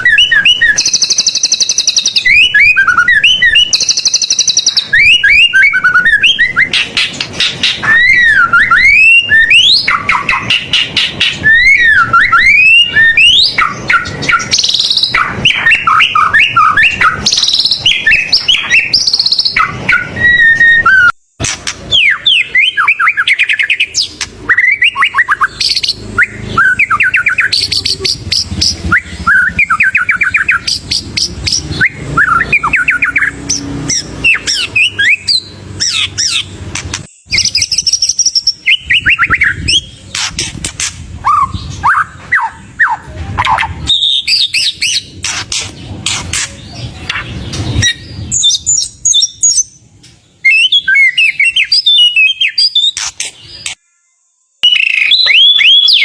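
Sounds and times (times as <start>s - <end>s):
songbird singing whistled phrases: 0.0s - 56.0s.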